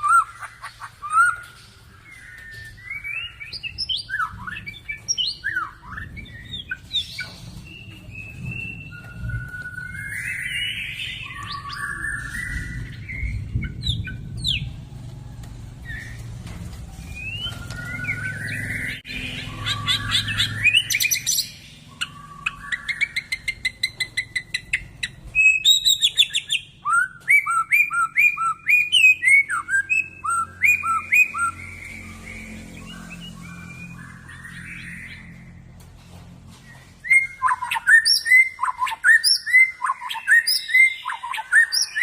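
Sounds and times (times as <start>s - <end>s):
bird singing whistled phrases: 1.0s - 14.7s, 17.1s - 24.7s, 25.4s - 35.3s, 36.7s - 42.0s.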